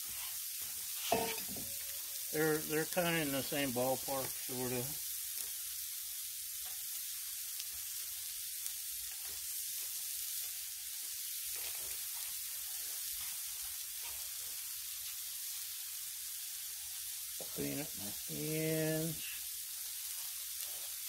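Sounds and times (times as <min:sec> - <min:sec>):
meat sizzling on griddle: 0:00.0 - 0:21.0.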